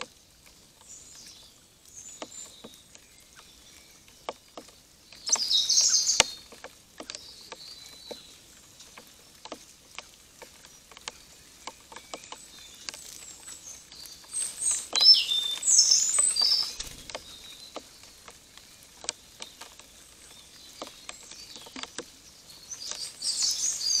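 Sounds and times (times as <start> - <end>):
birds chirping: 0.0 - 24.0
rain dripping: 0.0 - 24.0.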